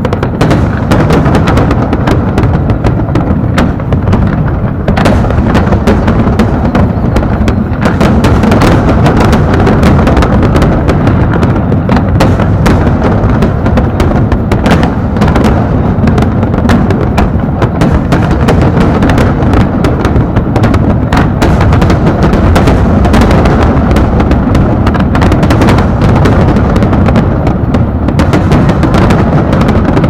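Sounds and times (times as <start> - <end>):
fireworks booming: 0.0 - 30.0
sharp bangs and crackles: 0.0 - 30.0.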